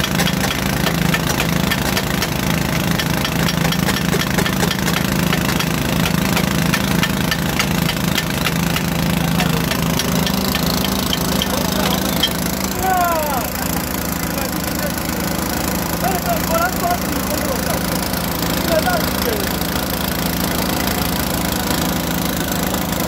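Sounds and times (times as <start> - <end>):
drilling rig engine humming: 0.0 - 23.0
fast regular ticking: 0.0 - 23.0.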